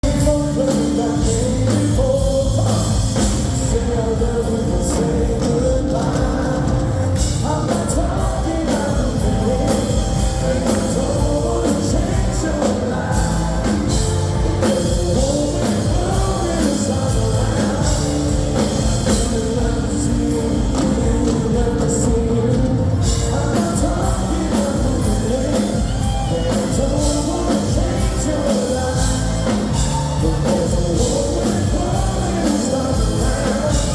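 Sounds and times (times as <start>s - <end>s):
lead singer singing: 0.0s - 33.9s
live band playing: 0.0s - 33.9s.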